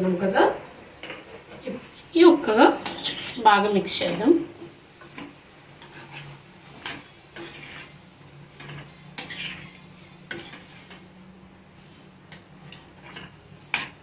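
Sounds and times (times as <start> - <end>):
potatoes scraping steel pot: 1.0 - 4.4, 5.0 - 14.0.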